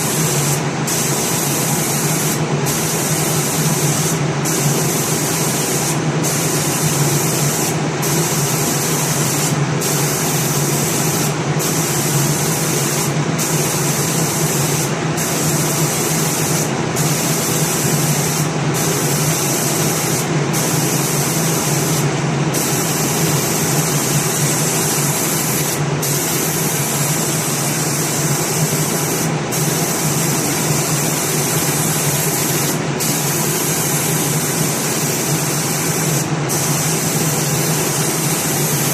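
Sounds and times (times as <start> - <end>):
spray gun hissing: 0.0 - 38.9.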